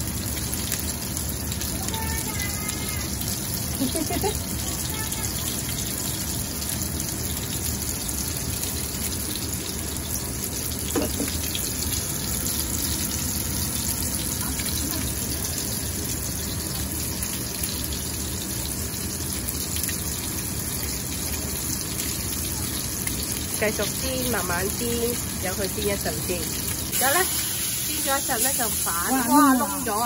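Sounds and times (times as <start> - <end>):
patties sizzling in oil: 0.0 - 30.0.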